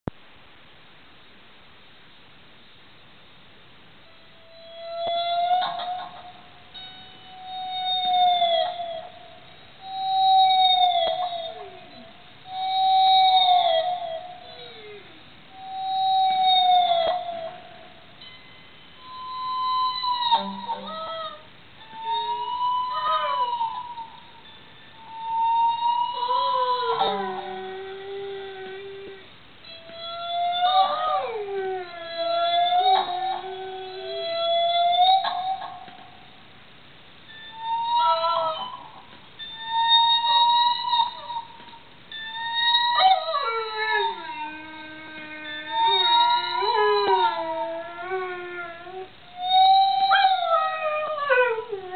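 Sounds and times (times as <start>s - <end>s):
dog howling: 4.5s - 18.0s, 19.0s - 36.1s, 37.3s - 51.9s.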